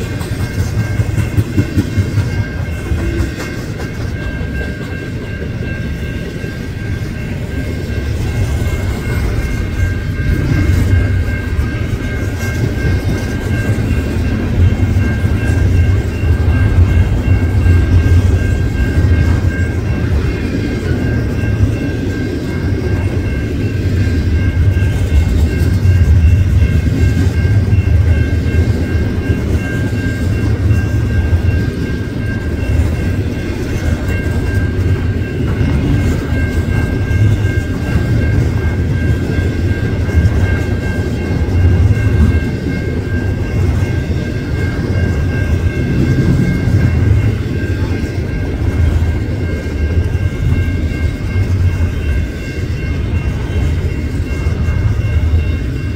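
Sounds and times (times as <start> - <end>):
steady high tones: 0.0 - 55.9
train wheels rumbling on rail: 0.0 - 55.9.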